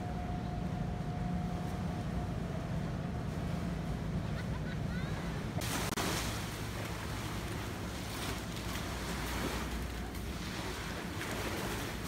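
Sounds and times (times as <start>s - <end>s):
small sea waves: 1.3s - 12.0s.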